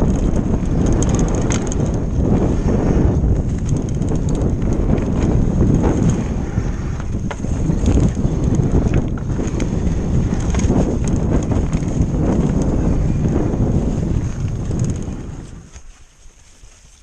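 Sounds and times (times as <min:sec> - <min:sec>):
bike clicking and rattling: 0:00.0 - 0:17.0
bike tyres rumbling on snow: 0:00.0 - 0:17.0
wind buffeting microphone: 0:00.0 - 0:17.0.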